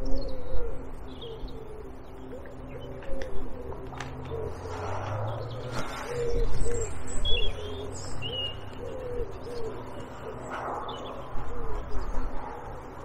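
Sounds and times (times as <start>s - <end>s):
pigeon cooing: 0.0s - 13.0s.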